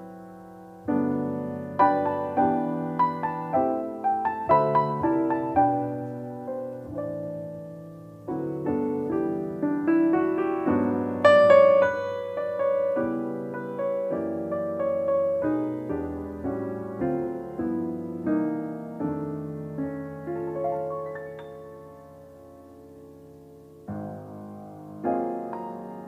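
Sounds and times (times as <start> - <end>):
jazz piano ballad: 0.0 - 26.0.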